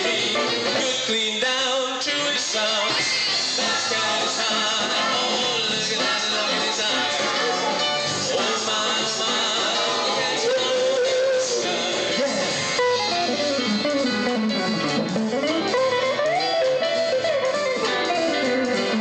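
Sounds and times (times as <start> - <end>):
live band music: 0.0 - 1.4, 2.3 - 19.0
guitar: 0.0 - 19.0.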